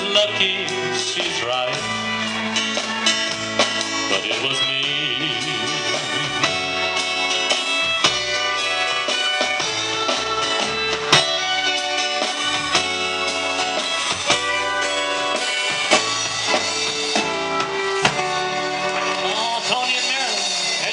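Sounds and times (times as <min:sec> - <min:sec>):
country band playing: 0:00.0 - 0:20.9
fiddle: 0:00.0 - 0:20.9
pedal steel guitar: 0:00.0 - 0:20.9.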